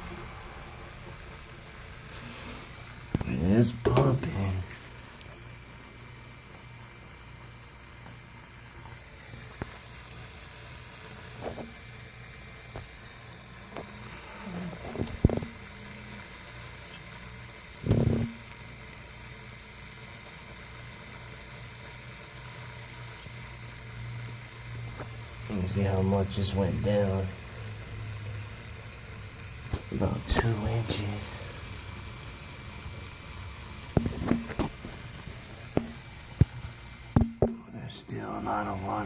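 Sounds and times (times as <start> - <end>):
electric pump humming: 0.0 - 39.0.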